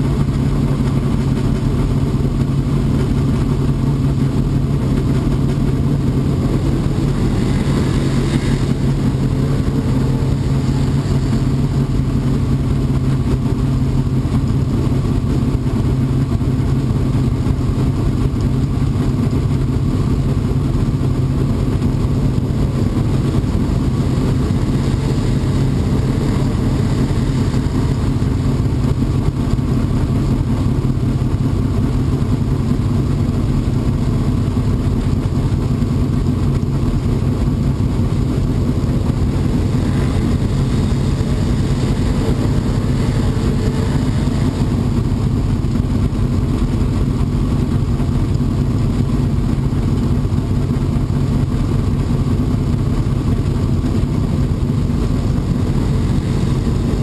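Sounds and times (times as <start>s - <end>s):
race car engine idling: 0.0s - 57.0s.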